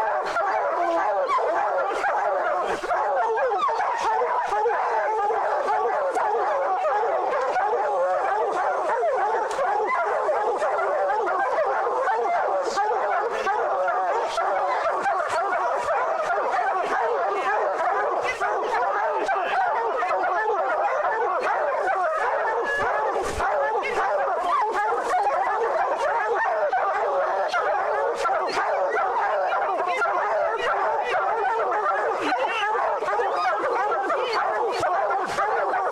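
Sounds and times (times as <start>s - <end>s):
hounds barking and baying: 0.0s - 35.9s.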